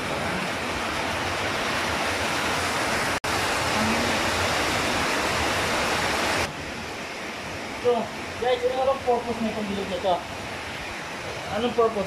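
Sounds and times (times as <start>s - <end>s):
electric fan rushing hiss: 0.0s - 12.0s.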